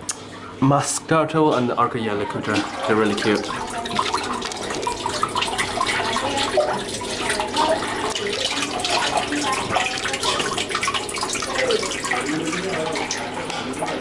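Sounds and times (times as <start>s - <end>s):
water running and bubbling: 0.0s - 14.0s.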